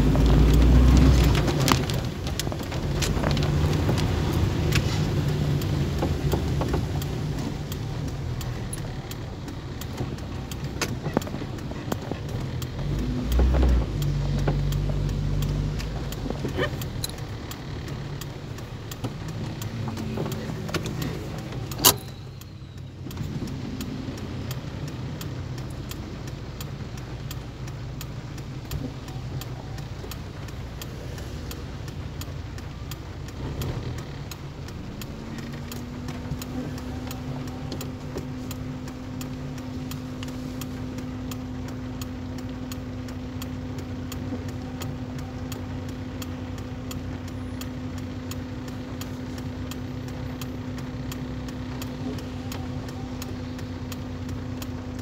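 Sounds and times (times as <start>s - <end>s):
car engine idling: 0.0s - 55.0s
light ticking: 0.0s - 55.0s.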